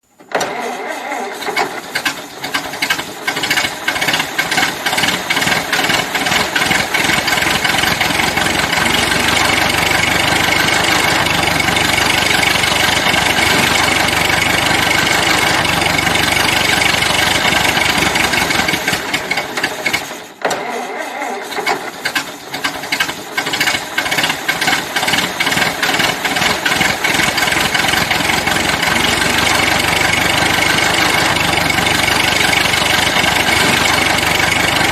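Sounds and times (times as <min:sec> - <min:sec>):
car engine starting and running: 0:00.3 - 0:34.9.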